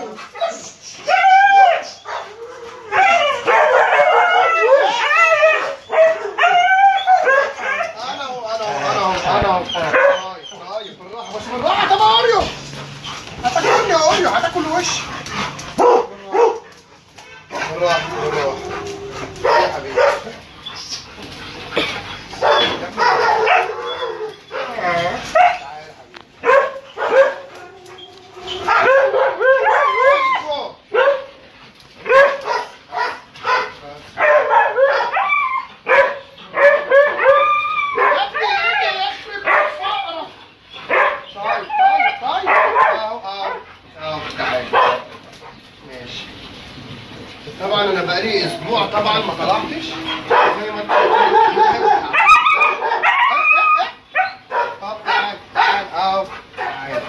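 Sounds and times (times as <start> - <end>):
dogs whining and yelping: 0.0 - 43.0, 48.1 - 57.0.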